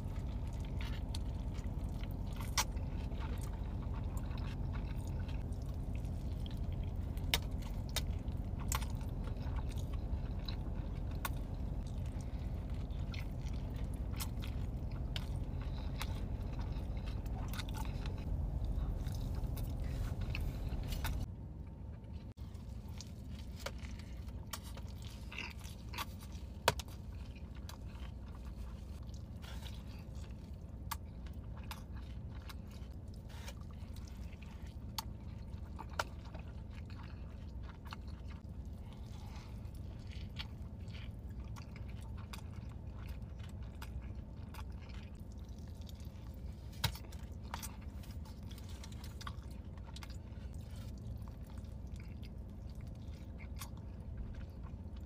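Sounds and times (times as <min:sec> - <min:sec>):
chewing and biting burger: 0:00.0 - 0:55.0
steady low hum: 0:00.0 - 0:55.0.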